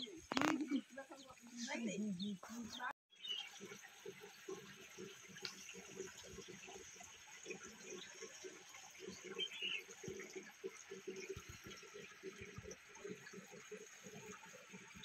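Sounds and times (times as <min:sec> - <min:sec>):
river water trickling: 0:00.0 - 0:15.0.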